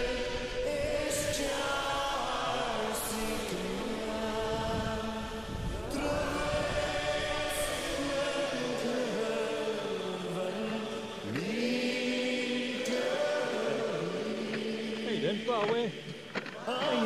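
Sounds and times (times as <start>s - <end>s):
choir-like chanting music: 0.0s - 17.0s.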